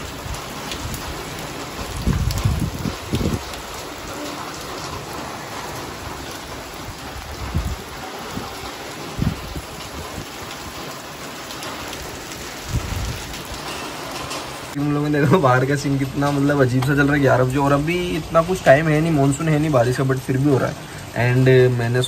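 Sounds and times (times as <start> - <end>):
rain falling on wet street: 0.0 - 22.0.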